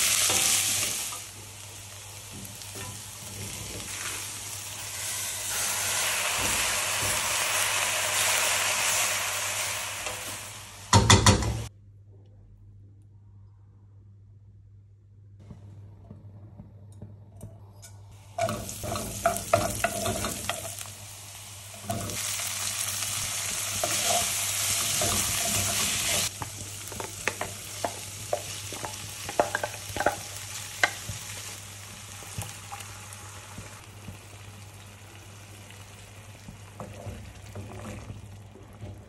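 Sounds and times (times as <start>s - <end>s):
food sizzling in oil: 0.0s - 11.4s, 18.2s - 38.5s.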